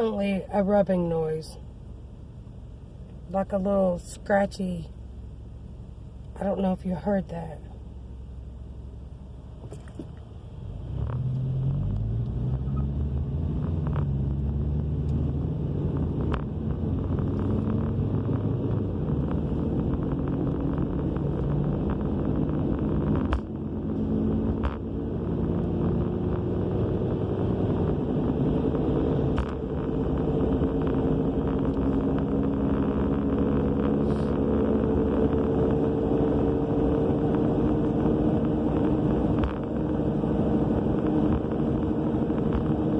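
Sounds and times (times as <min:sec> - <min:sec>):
car interior low roar: 0:00.0 - 0:42.9.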